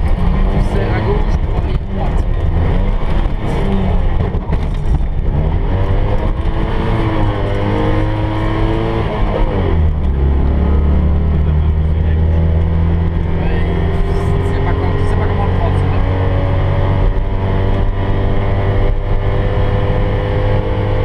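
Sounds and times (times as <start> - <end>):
car engine pulling hard: 0.0 - 21.0
car rattles: 0.0 - 21.0
road noise: 0.0 - 21.0.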